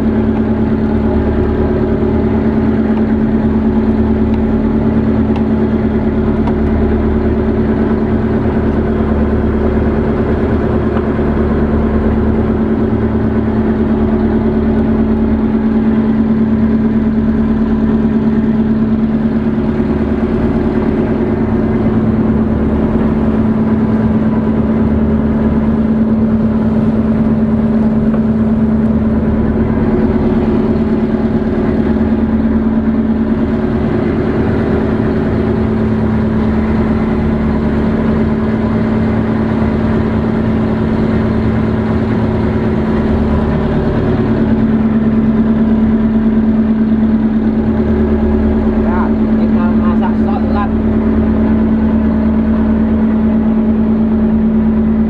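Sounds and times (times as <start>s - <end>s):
boat engine humming: 0.0s - 55.0s
water noise from hull: 0.0s - 55.0s.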